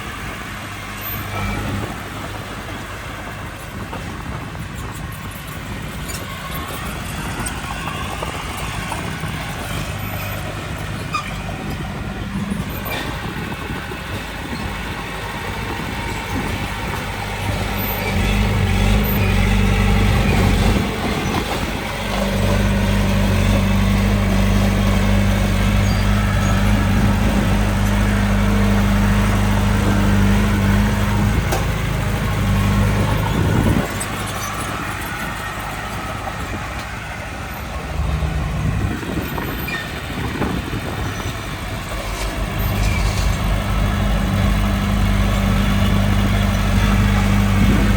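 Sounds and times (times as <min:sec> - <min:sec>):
heavy machinery diesel engine: 0:00.0 - 0:47.9.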